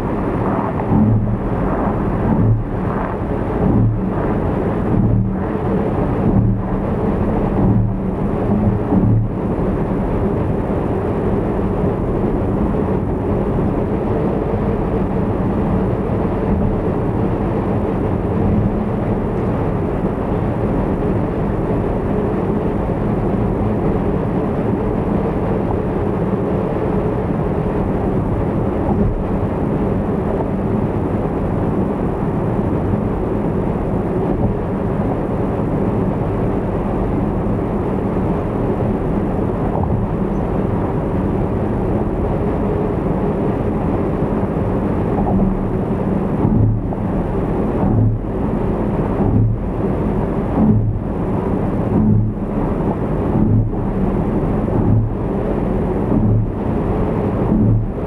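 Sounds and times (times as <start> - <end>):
car driving at speed: 0.0 - 58.0.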